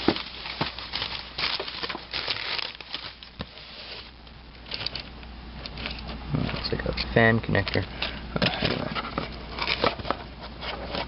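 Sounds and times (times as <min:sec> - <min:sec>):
cables rustling: 0:00.0 - 0:11.0.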